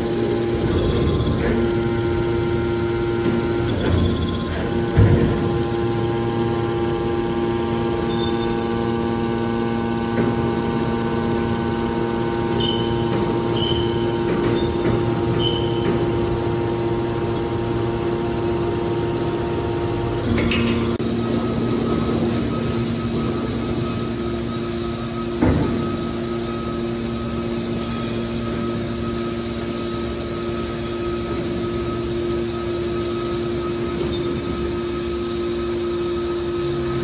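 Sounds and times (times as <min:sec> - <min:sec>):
hydraulic power unit humming: 0:00.0 - 0:37.0.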